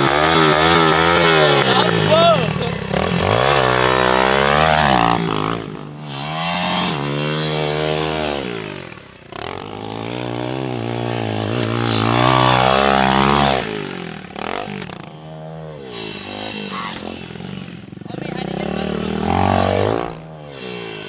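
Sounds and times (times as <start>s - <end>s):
pit bike engine revving: 0.0s - 21.0s.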